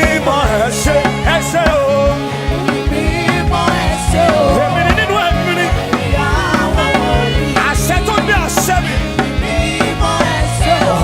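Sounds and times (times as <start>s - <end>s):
gospel band playing: 0.0s - 11.0s
people singing: 0.0s - 11.0s.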